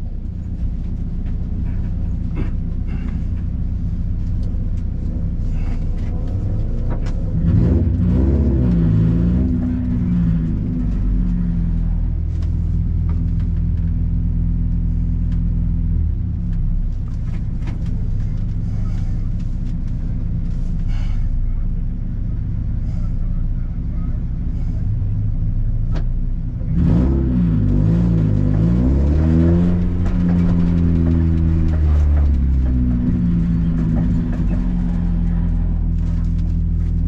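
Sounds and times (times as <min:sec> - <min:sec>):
race car engine idling: 0:00.0 - 0:37.0.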